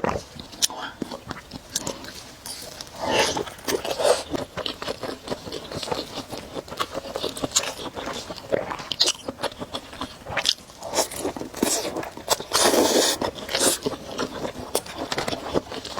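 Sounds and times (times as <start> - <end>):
person chewing noodles: 0.0 - 15.9.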